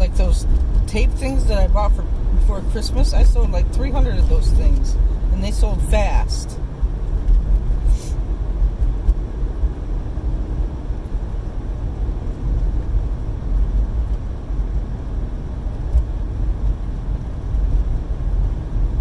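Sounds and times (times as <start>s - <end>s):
car engine and tyre noise: 0.0s - 19.0s.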